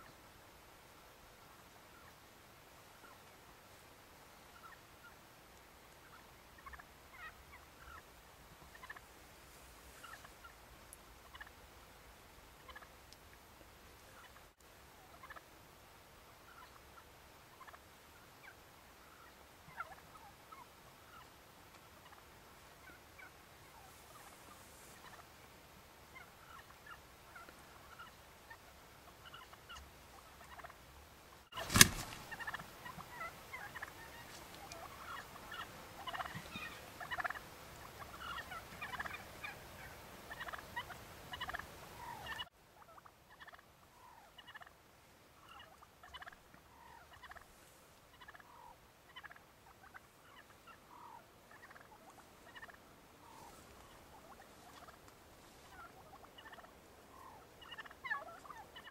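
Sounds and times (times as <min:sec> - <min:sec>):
wild turkeys gobbling: 0:00.0 - 0:15.6, 0:16.2 - 0:58.9.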